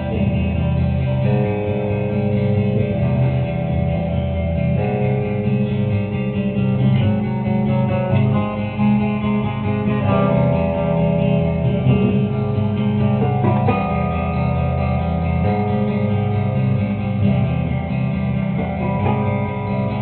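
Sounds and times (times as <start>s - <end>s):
live rock band guitars: 0.0s - 20.0s.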